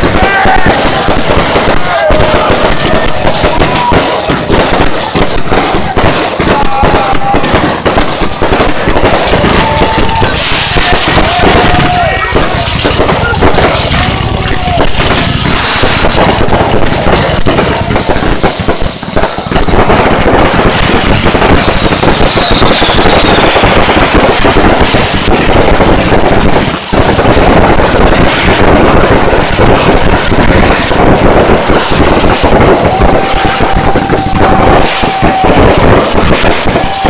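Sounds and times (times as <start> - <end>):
falling firework whistles: 0.0 - 13.8, 14.8 - 37.0
fireworks crackling and popping: 0.0 - 37.0.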